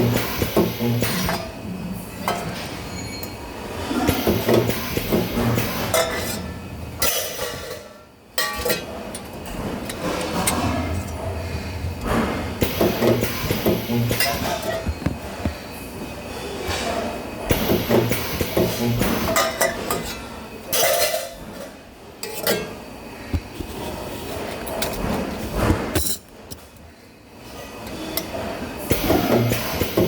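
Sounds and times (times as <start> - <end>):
low electrical hum: 0.0 - 29.8.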